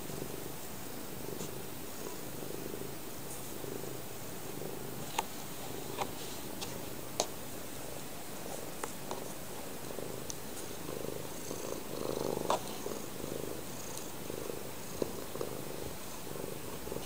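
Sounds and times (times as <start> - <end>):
cat purring: 0.0 - 6.9, 8.2 - 17.0.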